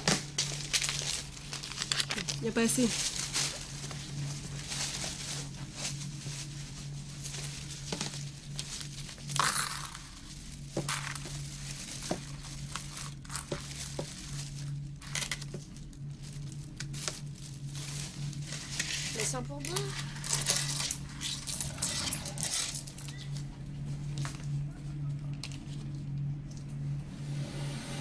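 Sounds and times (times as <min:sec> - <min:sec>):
plastic bag and paper rustling: 0:00.0 - 0:26.0
steady low hum: 0:00.0 - 0:28.0.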